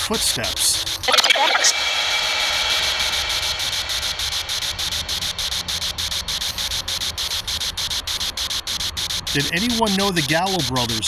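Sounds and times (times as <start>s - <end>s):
radio static hiss chopped on and off: 0.0s - 11.0s.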